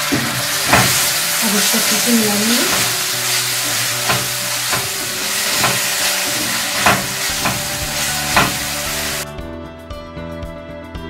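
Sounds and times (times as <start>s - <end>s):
masala sizzling in a pan: 0.0s - 9.2s
spatula scraping and knocking pan: 0.0s - 9.2s.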